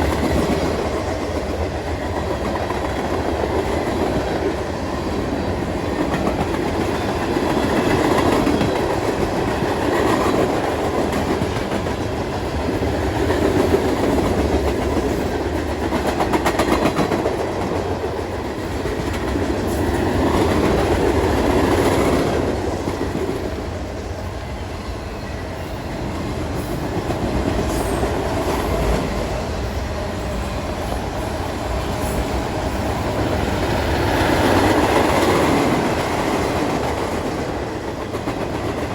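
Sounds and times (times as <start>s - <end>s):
train cars rumbling and rattling: 0.0s - 38.9s.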